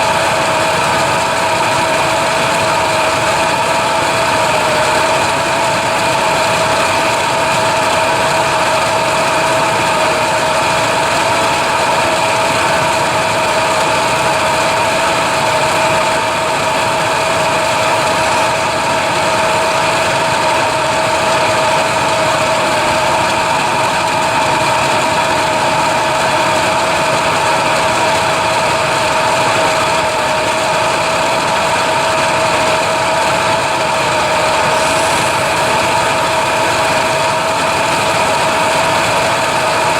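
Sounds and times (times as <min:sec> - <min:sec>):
machine humming steadily: 0:00.0 - 0:39.9.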